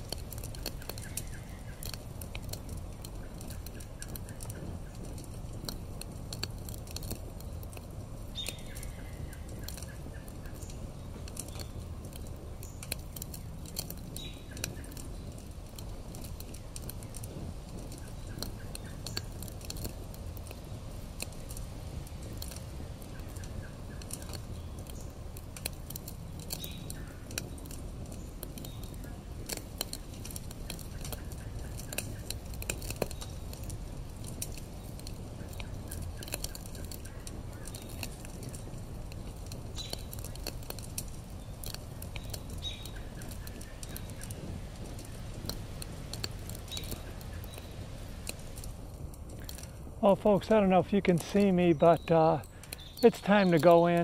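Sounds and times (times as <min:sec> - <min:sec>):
campfire crackling: 0:00.0 - 0:54.0
steady low rumble: 0:00.0 - 0:54.0.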